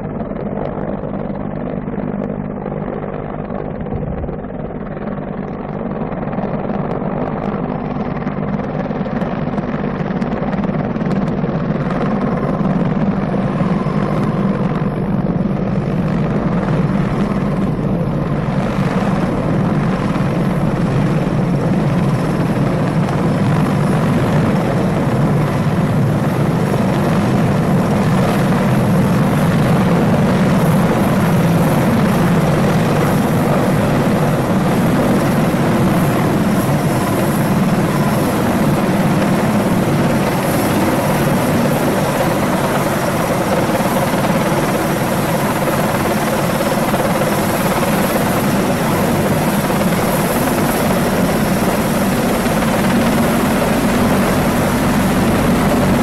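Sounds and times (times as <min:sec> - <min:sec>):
helicopter rotor drone: 0:00.0 - 0:56.0.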